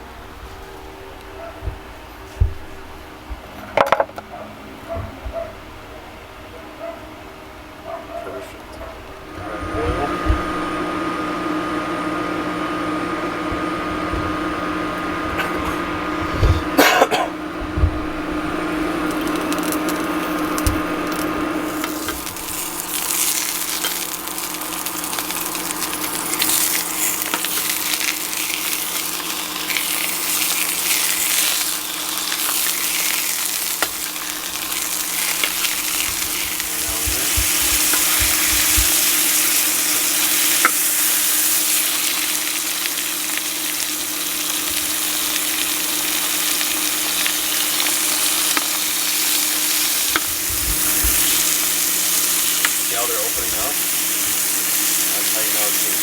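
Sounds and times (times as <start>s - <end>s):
steady low hum: 0.0s - 55.4s
sausages sizzling in a pan: 9.1s - 56.0s.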